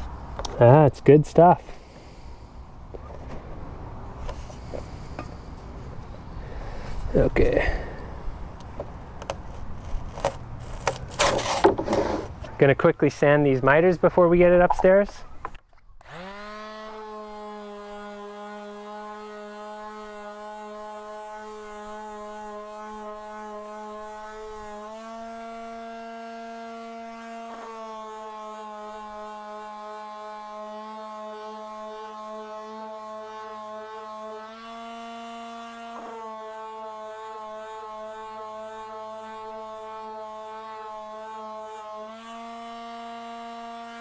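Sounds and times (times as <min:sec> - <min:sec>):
electric sander whine: 0:00.0 - 0:44.0.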